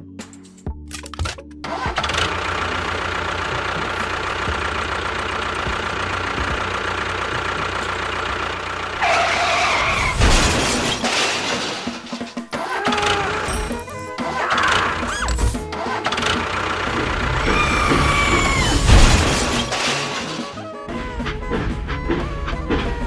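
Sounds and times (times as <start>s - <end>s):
small motor chugging: 1.6s - 23.0s.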